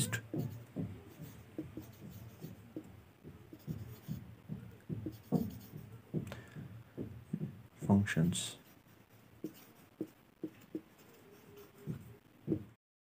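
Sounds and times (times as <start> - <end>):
marker pen writing on whiteboard: 0.0 - 12.8.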